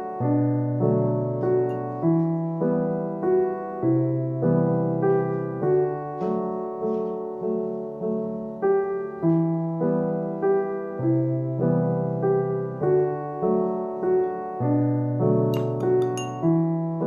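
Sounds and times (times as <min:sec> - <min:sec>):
slow solo piano melody: 0:00.0 - 0:17.0.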